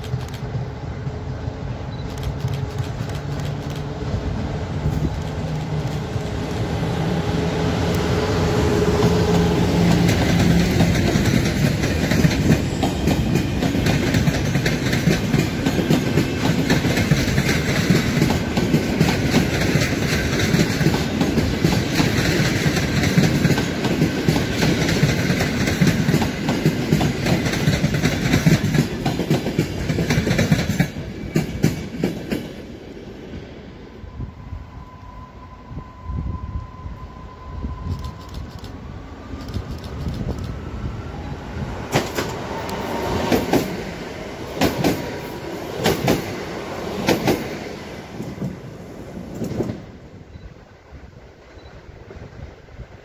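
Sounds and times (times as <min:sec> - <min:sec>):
locomotive hum: 0:00.0 - 0:53.0.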